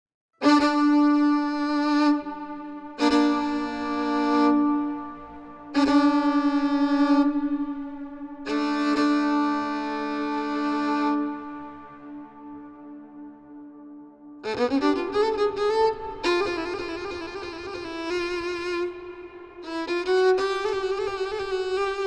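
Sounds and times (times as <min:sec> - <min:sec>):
bowed string instrument: 0:00.4 - 0:22.0.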